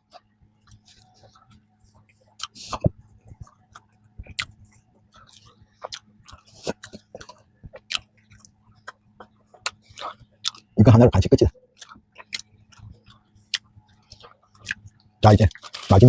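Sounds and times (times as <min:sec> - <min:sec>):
person chewing bread: 0:00.0 - 0:10.8, 0:11.6 - 0:16.0.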